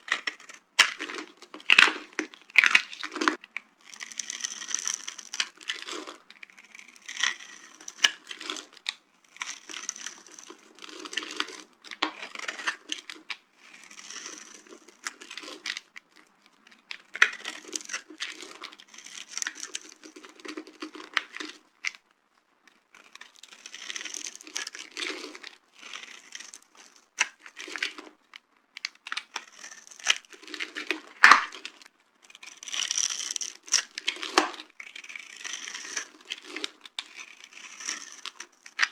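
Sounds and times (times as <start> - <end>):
dry soap crunching: 0.0 - 22.0, 22.7 - 38.9.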